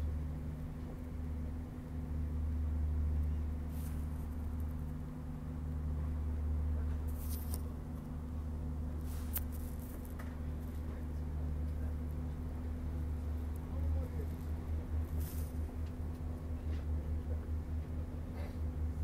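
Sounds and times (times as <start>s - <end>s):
boat diesel engine drone: 0.0s - 19.0s.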